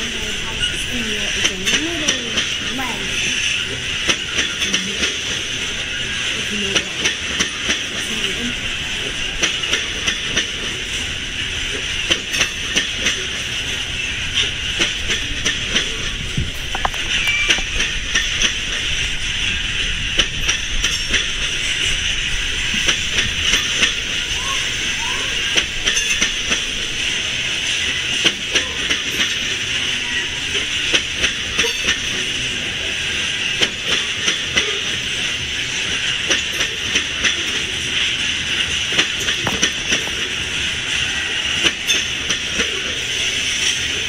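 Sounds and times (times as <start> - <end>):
freight train wheels clicking on rails: 0.0 - 44.0.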